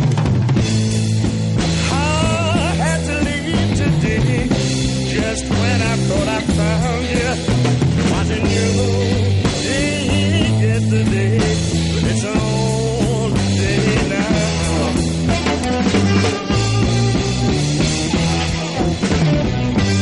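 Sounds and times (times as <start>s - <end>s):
rock music: 0.0s - 20.0s.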